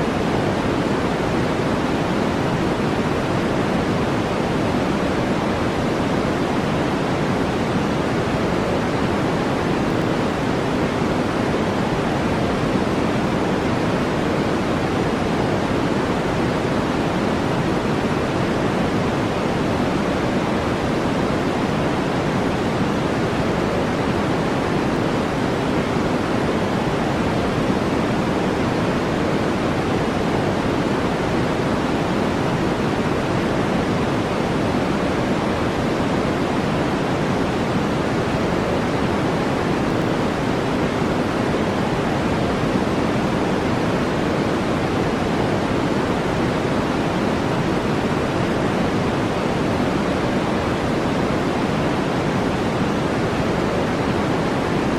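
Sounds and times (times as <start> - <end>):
brown noise hiss: 0.0 - 54.9.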